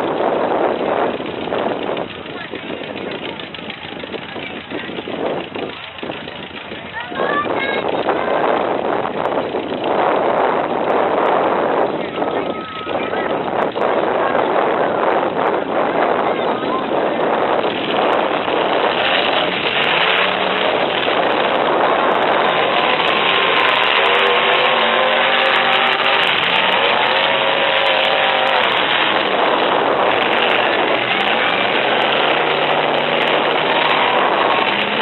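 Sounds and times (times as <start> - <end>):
dense wash of noise: 0.0 - 3.6, 4.3 - 35.0
truck engines revving hard: 0.0 - 35.0.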